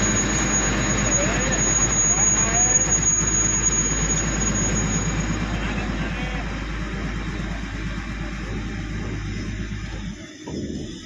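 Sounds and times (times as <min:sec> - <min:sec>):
diesel engine throbbing: 0:00.0 - 0:11.0
thin high whine: 0:00.0 - 0:11.0.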